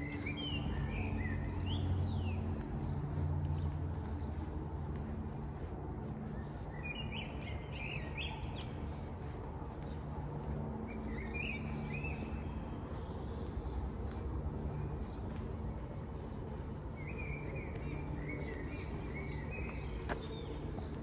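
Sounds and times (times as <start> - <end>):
songbird chirping: 0.0 - 21.0.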